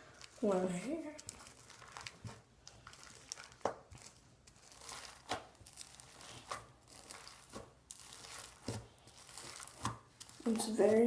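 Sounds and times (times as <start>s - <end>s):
slime squelching: 0.0s - 11.0s.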